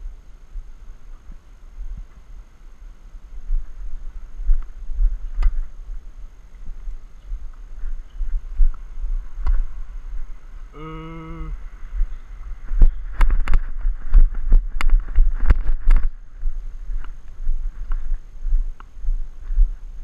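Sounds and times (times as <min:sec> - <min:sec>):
steady humming tone: 0:00.0 - 0:20.0
wind rumble on microphone: 0:00.0 - 0:20.0.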